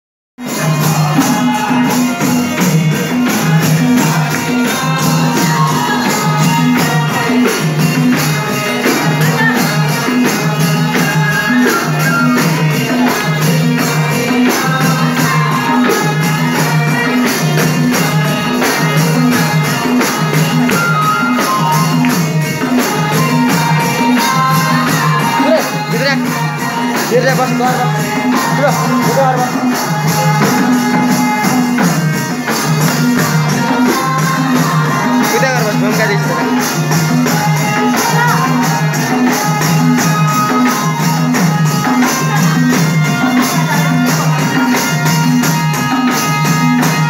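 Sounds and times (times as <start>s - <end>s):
tambourine jingles: 0.4s - 47.0s.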